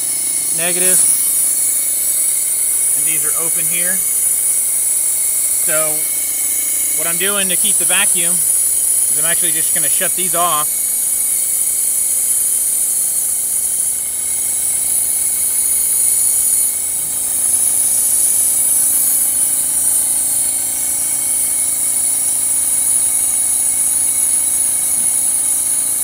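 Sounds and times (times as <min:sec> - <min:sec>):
vacuum pump hissing: 0:00.0 - 0:26.0.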